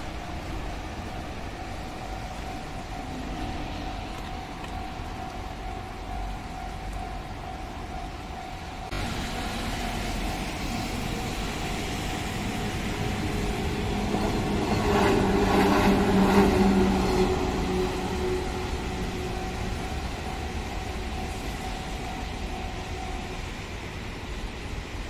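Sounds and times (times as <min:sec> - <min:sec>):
crossing warning bell ringing: 0:00.0 - 0:24.3
electric train passing: 0:00.0 - 0:25.0.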